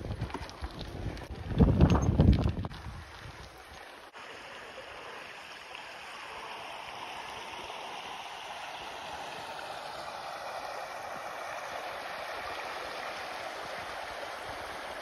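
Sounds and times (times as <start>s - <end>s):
stream flowing water: 0.0s - 15.0s.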